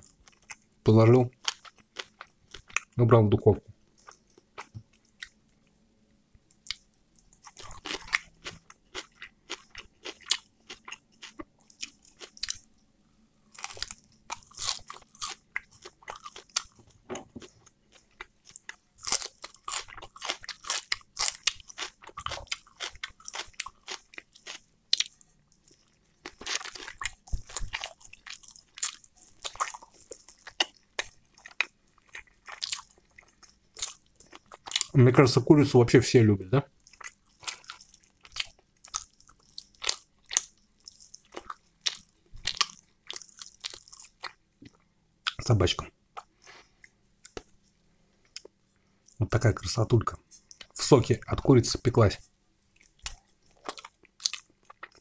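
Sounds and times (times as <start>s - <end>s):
person chewing food: 0.0s - 3.0s, 3.9s - 5.8s, 6.5s - 12.8s, 13.4s - 35.0s, 36.7s - 45.4s, 46.1s - 49.2s, 50.2s - 50.8s, 52.6s - 55.0s.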